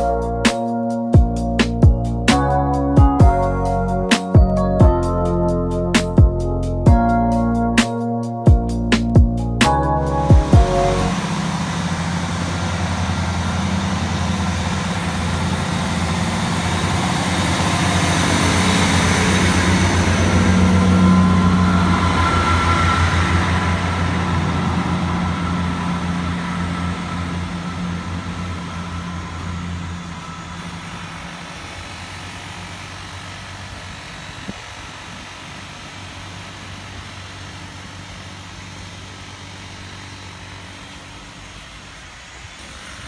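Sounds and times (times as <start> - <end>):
diesel train passing: 0.0 - 43.0.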